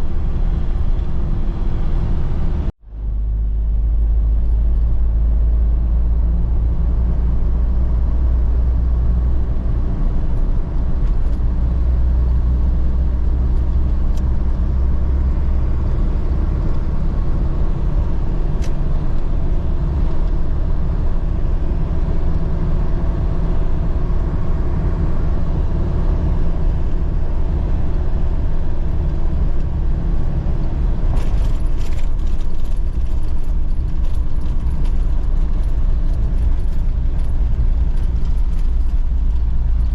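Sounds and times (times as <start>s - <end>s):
road noise: 0.0s - 39.9s
vehicle engine rumble: 0.0s - 39.9s.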